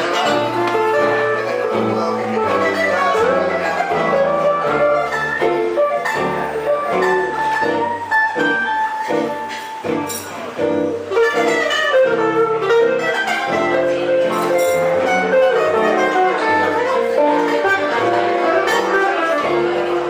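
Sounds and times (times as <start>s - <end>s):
plucked guitar run: 0.0s - 20.0s.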